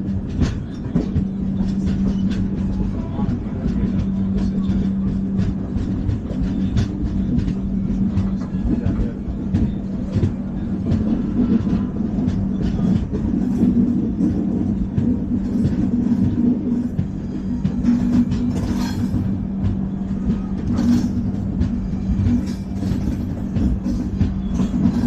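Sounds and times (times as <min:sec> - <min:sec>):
train coach rumble and hum: 0:00.0 - 0:25.0
wheels clicking on track: 0:00.0 - 0:25.0.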